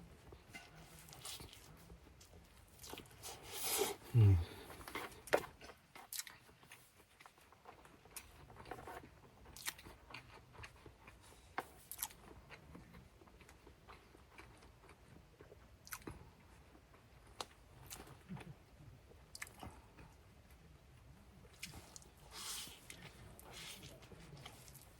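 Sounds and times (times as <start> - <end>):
faint chewing: 0.0 - 24.9.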